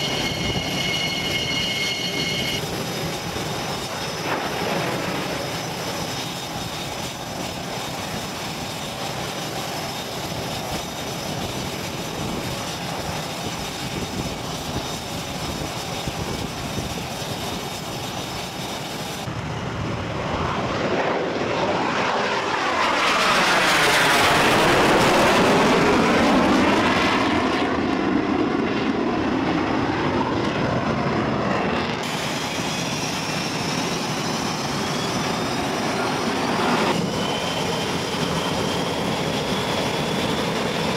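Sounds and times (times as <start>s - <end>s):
aircraft engine drone: 0.0s - 40.9s
aircraft passing low: 0.0s - 40.9s.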